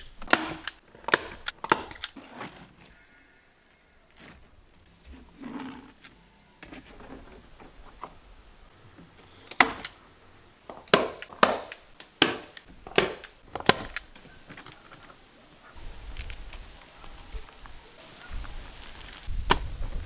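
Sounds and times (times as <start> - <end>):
faint handling sounds: 0.1 - 20.0.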